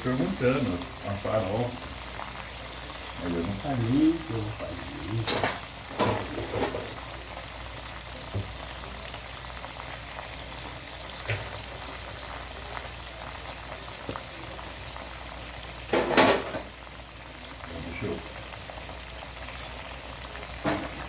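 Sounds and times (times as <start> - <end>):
ribs sizzling in a pan: 0.0 - 21.0.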